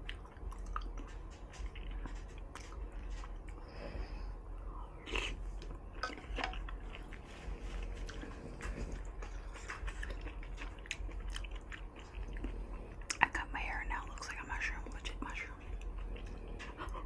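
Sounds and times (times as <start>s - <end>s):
wet chewing mouth sounds: 0.0s - 17.0s.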